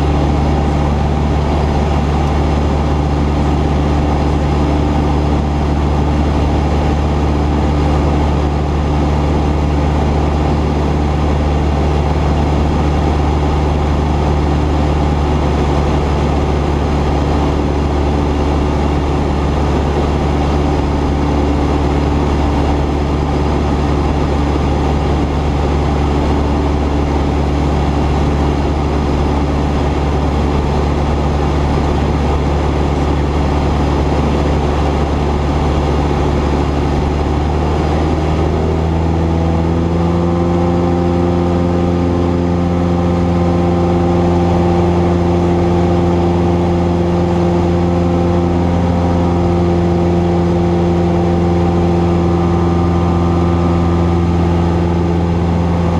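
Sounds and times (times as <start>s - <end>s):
light aircraft engine and propeller: 0.0s - 55.9s.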